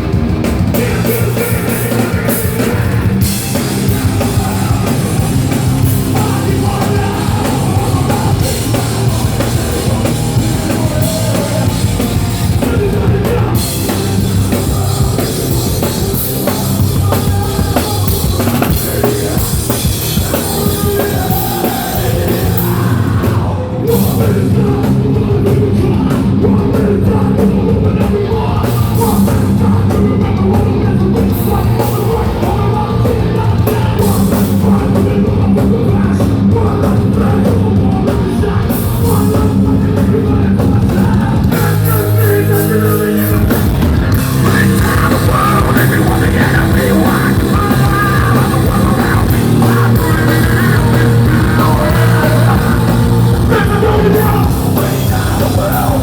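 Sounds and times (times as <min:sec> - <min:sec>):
bass guitar: 0:00.0 - 0:56.0
distorted electric guitars: 0:00.0 - 0:56.0
drums: 0:00.0 - 0:56.0
person singing: 0:00.6 - 0:56.0.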